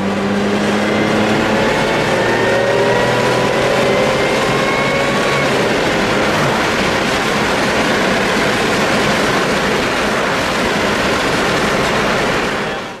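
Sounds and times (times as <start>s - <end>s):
car engine: 0.0s - 13.0s
road noise: 0.0s - 13.0s
wind noise: 0.0s - 13.0s.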